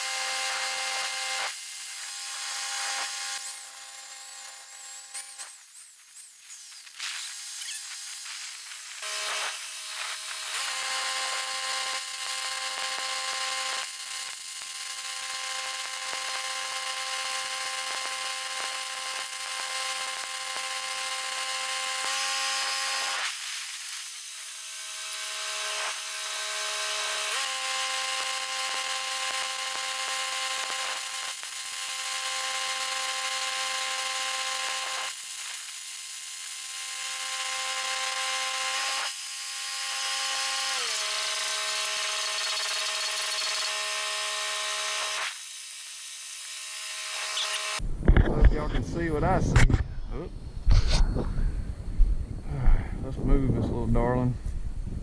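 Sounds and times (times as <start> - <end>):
electric power tool motor whining: 0.0 - 47.8.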